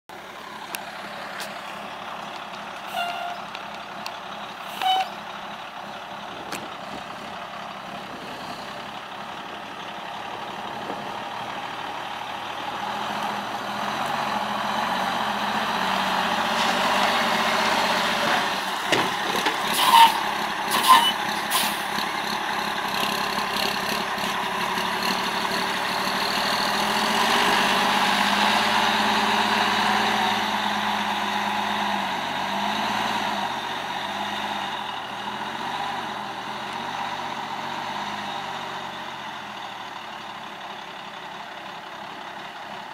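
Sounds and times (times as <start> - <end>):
diesel truck engine running: 0.1 - 42.9.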